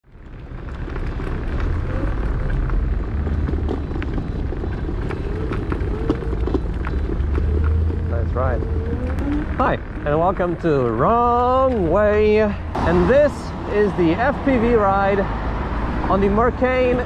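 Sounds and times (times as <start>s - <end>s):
road noise: 0.0s - 17.0s
wind rumble: 0.0s - 17.0s.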